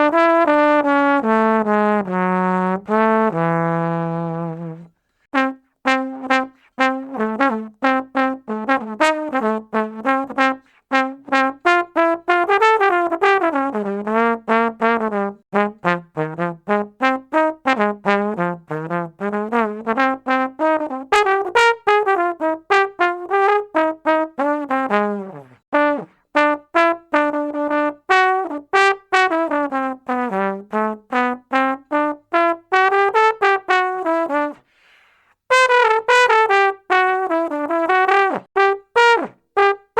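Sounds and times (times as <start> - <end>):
tuba playing short notes: 0.0 - 34.6, 35.5 - 39.9.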